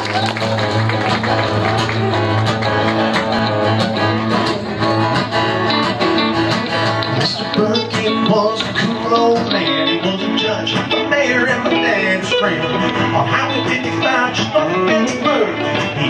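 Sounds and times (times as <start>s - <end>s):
acoustic guitar strumming: 0.0s - 16.0s
live country band: 0.0s - 16.0s.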